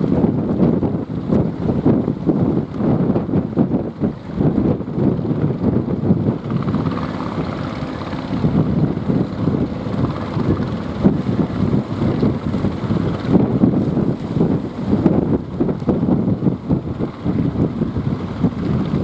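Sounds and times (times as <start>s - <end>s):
boat motor humming: 0.0s - 19.0s
wind buffeting microphone: 0.0s - 19.0s.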